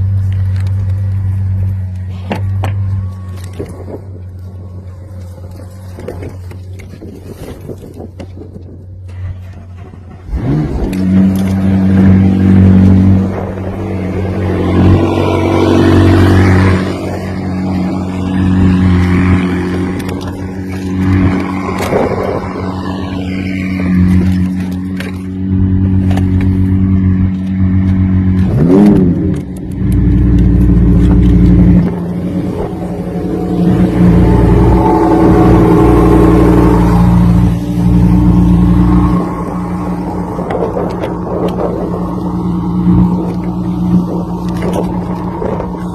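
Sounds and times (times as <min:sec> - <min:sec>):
car engine starting and idling: 0:00.0 - 0:45.9
engine rev: 0:00.0 - 0:45.9
low hum: 0:00.0 - 0:45.9.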